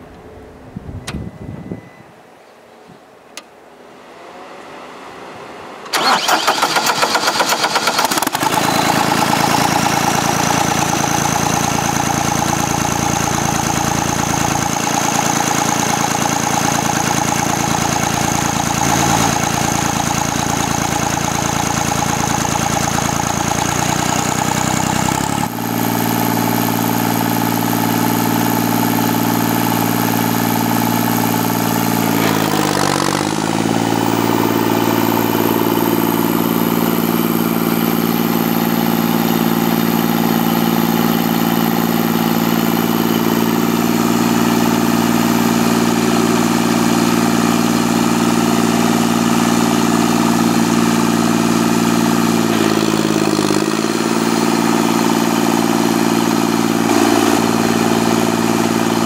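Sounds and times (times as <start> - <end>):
stump grinder engine running: 5.9 - 59.0.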